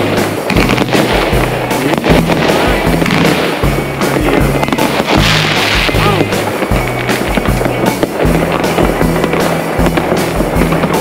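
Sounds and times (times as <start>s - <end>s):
background music with bass beat: 0.0s - 11.0s.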